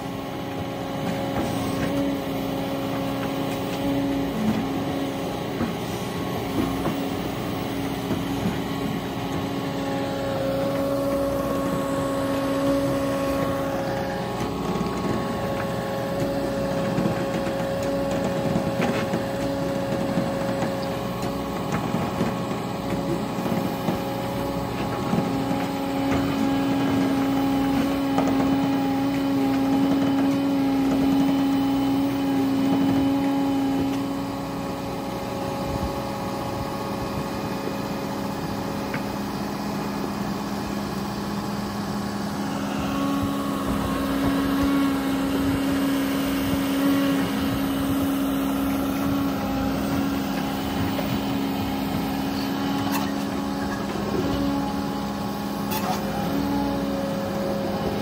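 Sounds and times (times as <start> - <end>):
diesel engine running: 0.0 - 58.0
hydraulic whine: 0.0 - 58.0.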